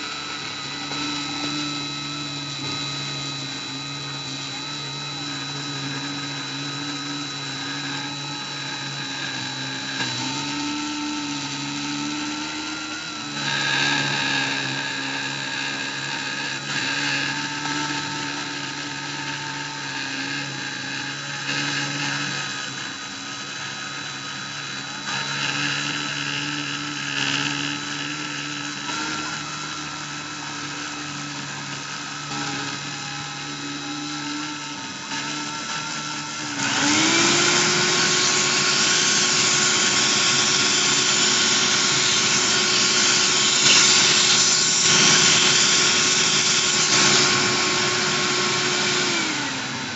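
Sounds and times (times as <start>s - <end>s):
rotary tool cutting acrylic: 0.0s - 49.9s.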